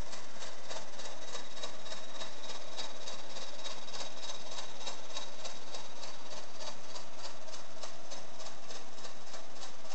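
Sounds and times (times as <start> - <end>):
model engine clicking: 0.0 - 9.9.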